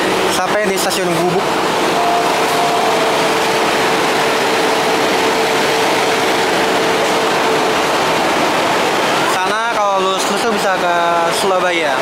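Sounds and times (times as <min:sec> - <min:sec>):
mid-pitched whine: 0:00.0 - 0:10.9
train engine drone: 0:00.0 - 0:12.0.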